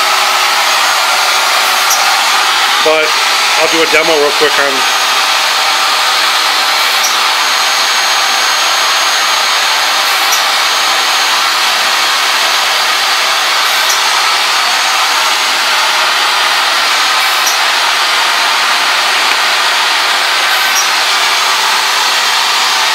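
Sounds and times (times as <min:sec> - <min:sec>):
machine motor running: 0:00.0 - 0:22.9.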